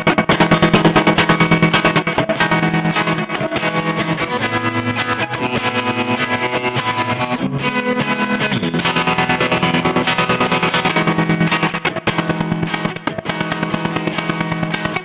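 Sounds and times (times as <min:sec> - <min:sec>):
pulsing distorted electric guitar: 0:00.0 - 0:15.0.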